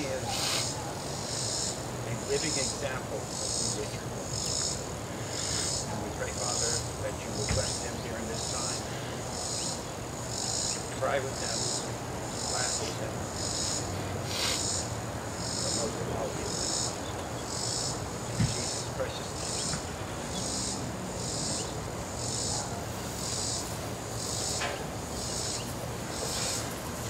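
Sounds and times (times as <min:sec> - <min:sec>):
insect calling in buzzy pulses: 0:00.0 - 0:27.0.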